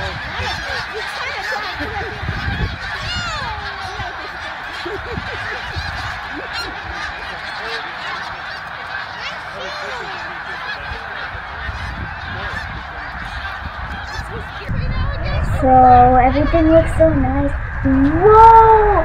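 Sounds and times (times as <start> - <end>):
geese honking: 0.0 - 16.8.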